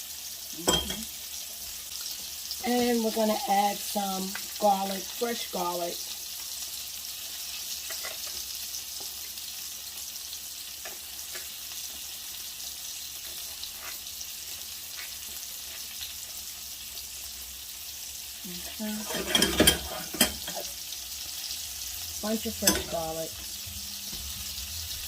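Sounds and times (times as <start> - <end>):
garlic sizzling in oil: 0.0 - 25.0.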